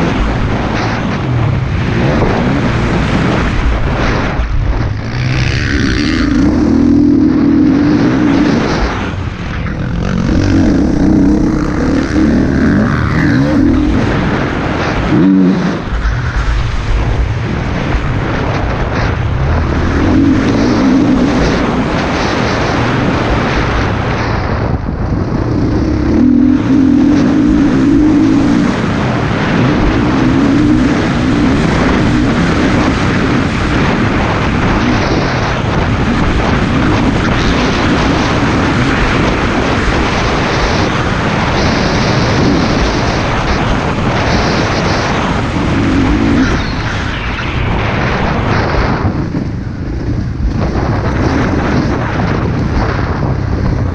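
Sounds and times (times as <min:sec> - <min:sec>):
motocross bike engine revving: 0:00.0 - 0:47.0.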